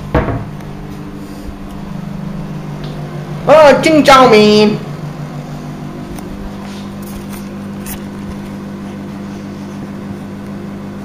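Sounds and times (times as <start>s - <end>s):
appliance electric hum: 0.0s - 11.0s.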